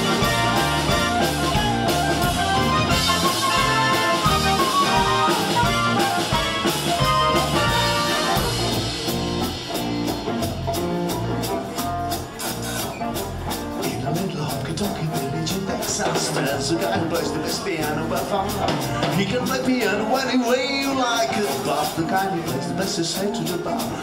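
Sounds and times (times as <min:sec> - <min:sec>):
boogie-woogie swing music: 0:00.0 - 0:24.0.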